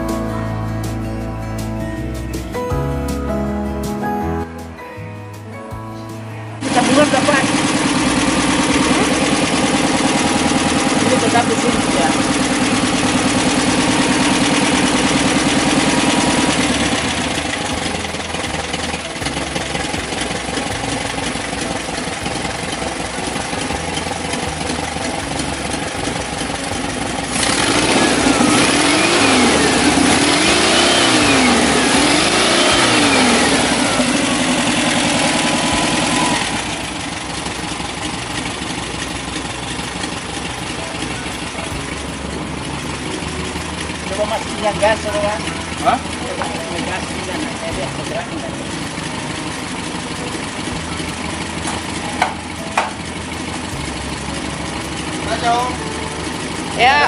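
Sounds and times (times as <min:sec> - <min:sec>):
car engine running and revving: 0:06.5 - 0:57.0.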